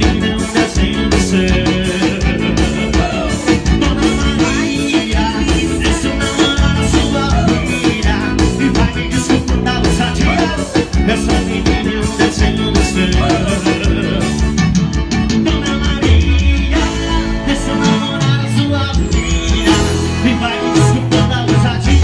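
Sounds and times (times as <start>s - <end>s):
drum kit: 0.0s - 22.0s
guitar: 0.0s - 22.0s
live band music: 0.0s - 22.0s
man singing: 0.0s - 22.0s.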